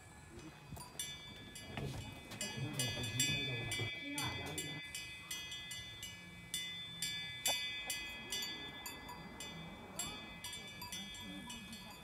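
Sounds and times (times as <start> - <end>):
bell chimes ringing: 0.7 - 12.0.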